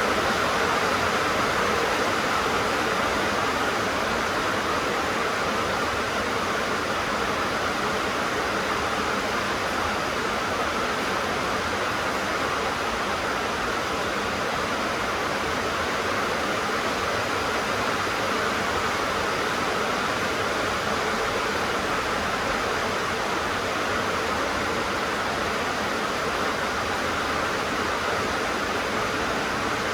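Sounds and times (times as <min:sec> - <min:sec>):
rain on a tin roof: 0:00.0 - 0:29.9.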